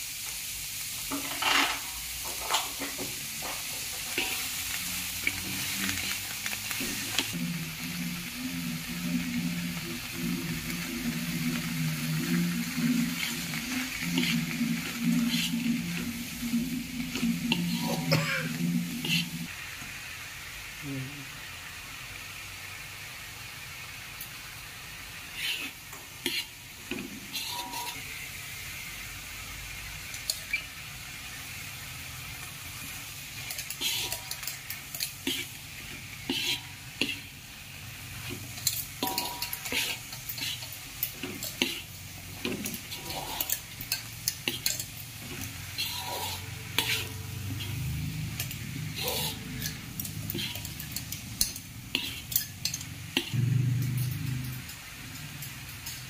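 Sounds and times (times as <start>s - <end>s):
vegetables sizzling in a wok: 0.0s - 56.0s
metal spatula scraping a pan: 1.1s - 19.5s, 25.2s - 28.2s, 30.1s - 30.8s, 32.2s - 56.0s.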